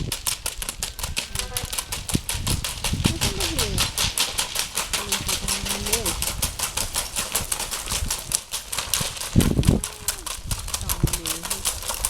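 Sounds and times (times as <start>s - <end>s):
horse hooves striking ground: 0.0s - 12.0s.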